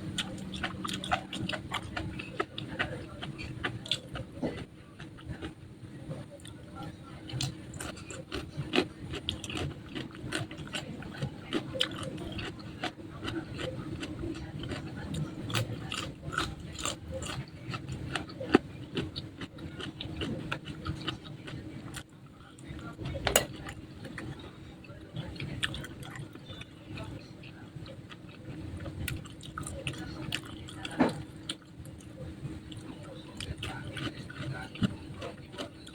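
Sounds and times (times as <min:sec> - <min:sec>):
chewing crispy fried food: 0:00.0 - 0:35.9.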